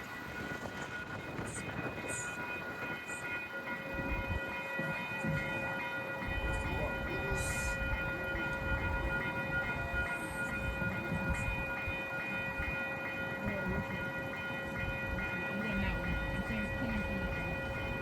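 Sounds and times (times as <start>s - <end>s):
steady high-pitched tone: 0.0s - 18.0s
train low rumble: 0.0s - 18.0s.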